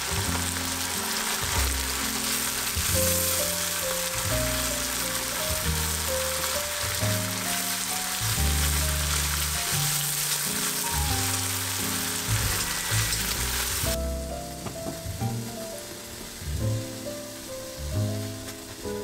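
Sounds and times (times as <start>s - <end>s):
background music: 0.0s - 19.0s
food sizzling in hot oil: 0.0s - 19.0s.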